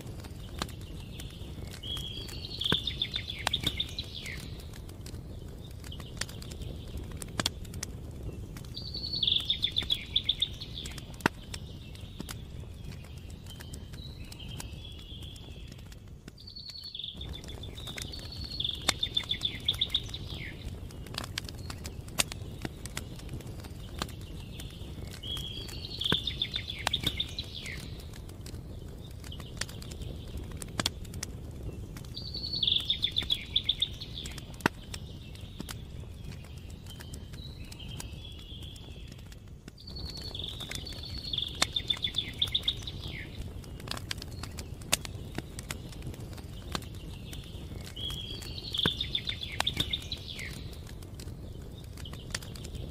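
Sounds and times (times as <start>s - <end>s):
campfire crackling and popping: 0.0s - 52.9s
songbird song with trill: 0.0s - 52.9s.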